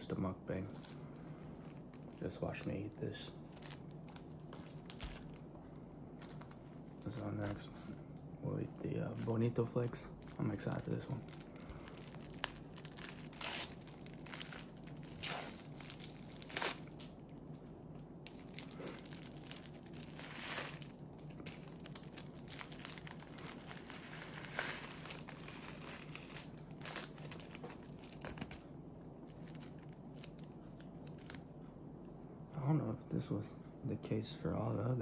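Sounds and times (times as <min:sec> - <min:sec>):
plastic wrapper crinkling and tearing: 0:00.7 - 0:05.5, 0:06.1 - 0:08.3, 0:09.0 - 0:28.6, 0:29.2 - 0:31.4.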